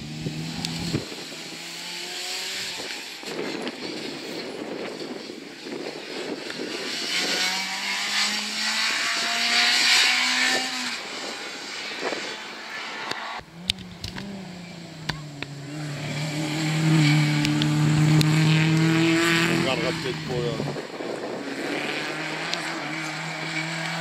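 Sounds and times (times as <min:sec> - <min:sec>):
rally car engine revving: 0:00.0 - 0:04.0, 0:06.0 - 0:24.0
rally car approaching: 0:00.0 - 0:24.0.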